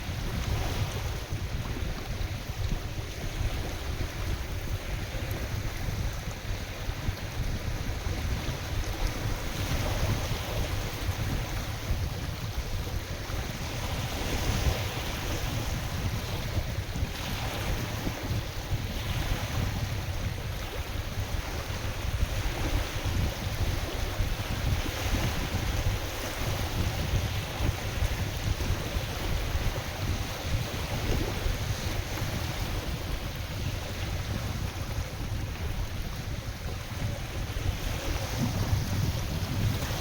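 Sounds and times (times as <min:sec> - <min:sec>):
lake waves washing in: 0:00.0 - 0:40.0
wind buffeting microphone: 0:00.0 - 0:40.0.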